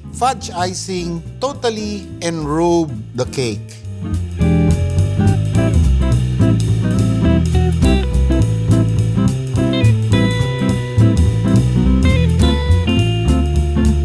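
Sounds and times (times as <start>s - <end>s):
drum kit beat: 0.0s - 14.0s
guitar instrumental music: 0.0s - 14.0s.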